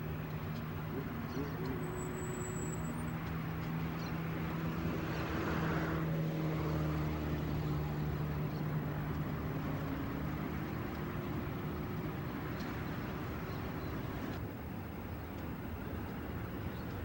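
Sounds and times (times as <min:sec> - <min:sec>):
diesel locomotive engine humming: 0:00.0 - 0:17.0.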